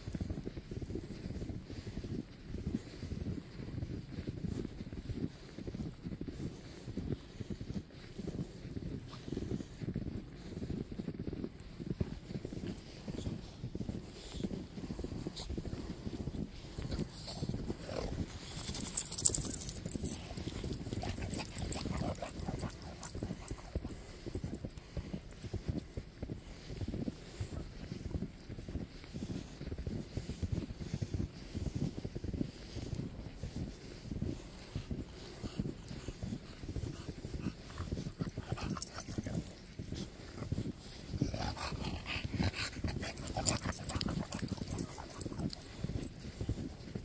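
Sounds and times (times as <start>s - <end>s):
dogs breathing and snuffling: 0.0s - 47.0s
footsteps crunching in snow: 0.0s - 47.0s.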